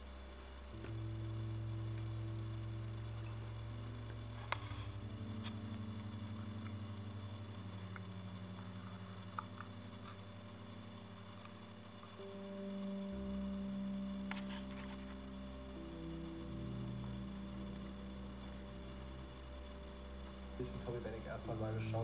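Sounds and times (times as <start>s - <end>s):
ambient synth drone music: 0.0s - 22.0s.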